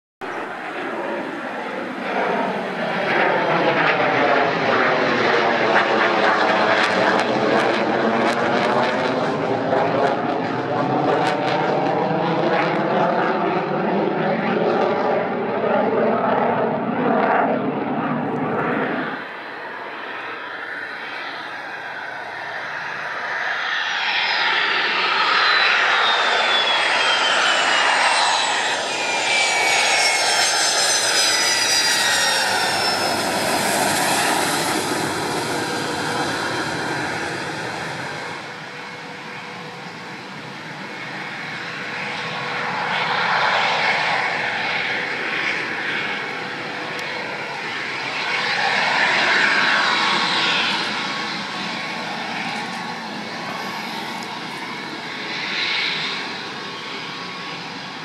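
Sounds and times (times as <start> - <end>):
jet engine rush and whine: 0.2 - 58.0.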